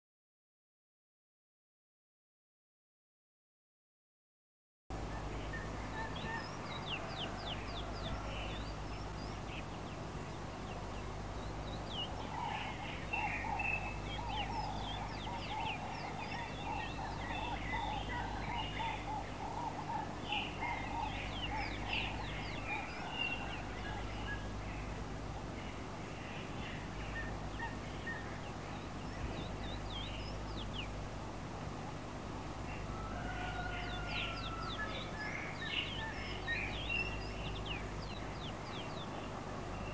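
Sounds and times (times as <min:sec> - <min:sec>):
birds chirping and chattering: 0:04.9 - 0:39.9
steady low hum: 0:04.9 - 0:39.9.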